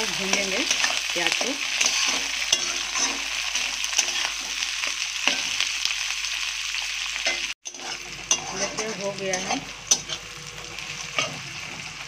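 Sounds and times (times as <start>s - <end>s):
metal spatula scraping pan: 0.0s - 5.6s, 7.3s - 12.0s
onions sizzling in hot oil: 0.0s - 12.0s.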